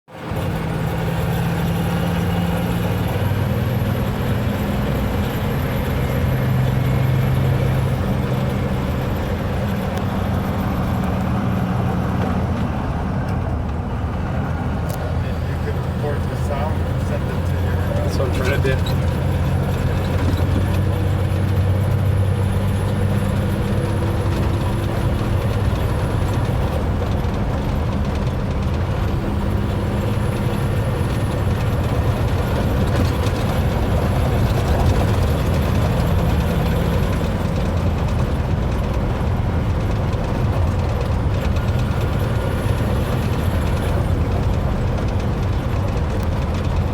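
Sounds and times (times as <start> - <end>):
truck engine under load: 0.1 - 46.9.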